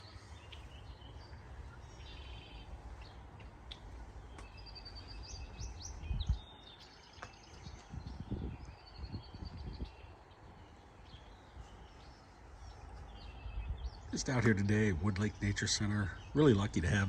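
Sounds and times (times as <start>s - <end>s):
songbirds singing and chirping: 0.0s - 17.0s.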